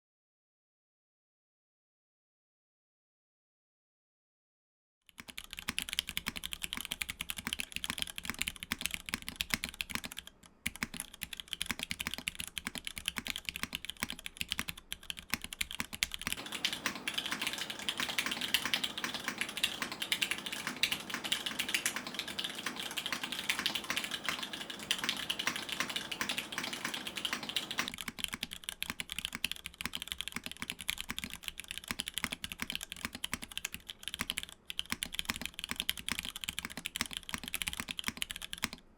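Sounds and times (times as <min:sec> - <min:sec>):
mechanical keyboard keystroke clacks: 0:05.1 - 0:38.8.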